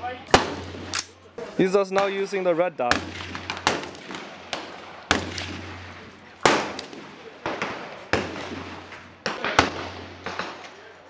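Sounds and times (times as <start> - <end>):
rifle shots echoing: 0.2 - 1.3, 1.9 - 10.9.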